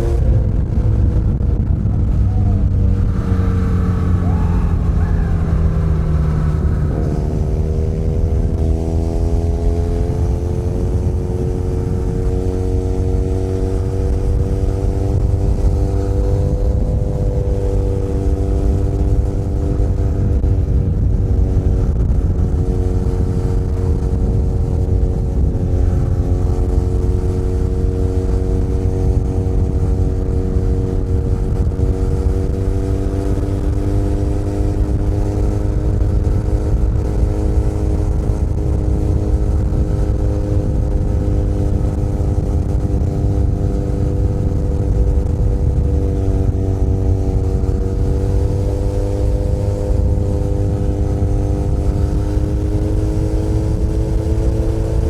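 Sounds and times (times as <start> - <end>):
motorcycle engine cruising: 0.0 - 55.0
wind and road rumble: 0.0 - 55.0.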